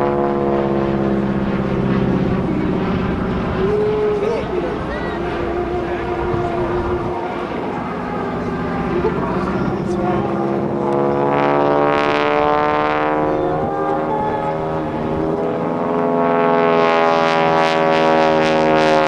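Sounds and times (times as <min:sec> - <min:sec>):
propeller plane radial engine: 0:00.0 - 0:19.0.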